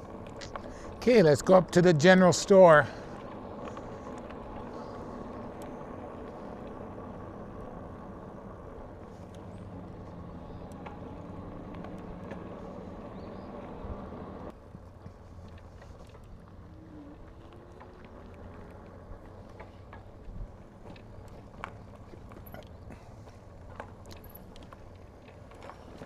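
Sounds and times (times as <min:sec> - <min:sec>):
bicycle tyre rumble: 0:00.0 - 0:26.0.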